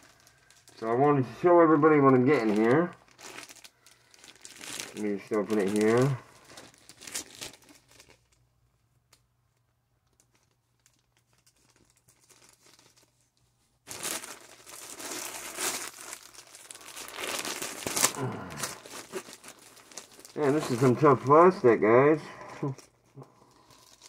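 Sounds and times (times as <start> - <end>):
plastic bag crinkling and tearing: 0.0 - 8.4, 10.0 - 24.0.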